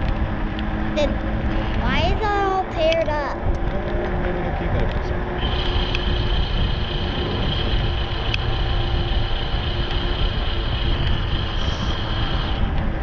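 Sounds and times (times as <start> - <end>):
high electric motor whine: 0.0 - 13.0
wind buffeting microphone: 0.0 - 13.0.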